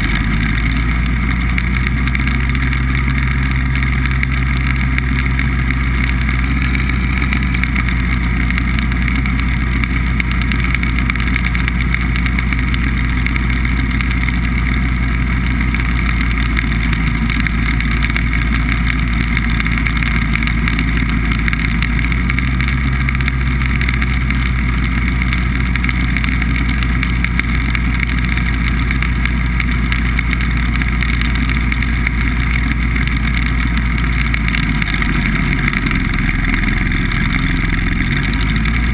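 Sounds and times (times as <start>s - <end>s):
hovercraft engine and fan running: 0.0s - 38.9s.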